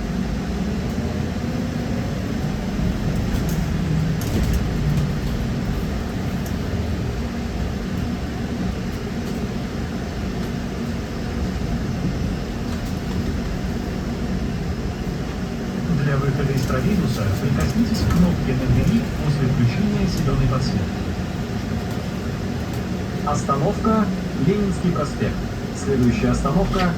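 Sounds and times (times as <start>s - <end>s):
trolleybus running noise: 0.0s - 26.9s.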